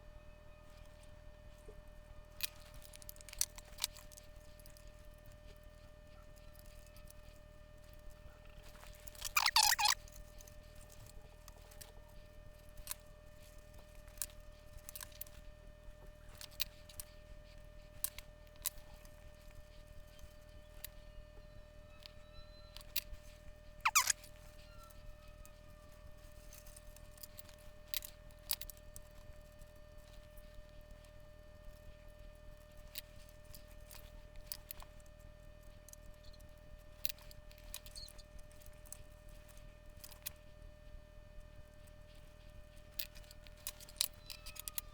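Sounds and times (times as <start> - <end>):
low electrical hum: 0.0 - 44.9.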